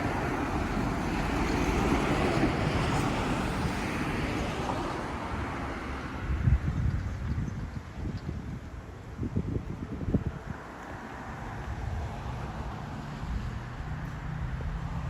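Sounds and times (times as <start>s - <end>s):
road vehicle passing: 0.0s - 7.0s, 9.7s - 15.0s
wind buffeting microphone: 0.0s - 15.0s.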